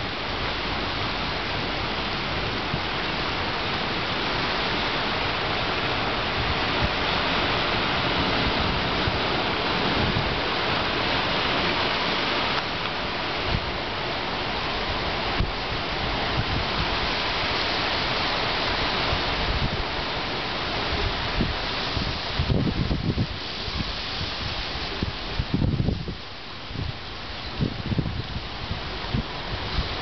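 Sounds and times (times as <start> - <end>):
surf breaking over rocks: 0.0 - 25.6.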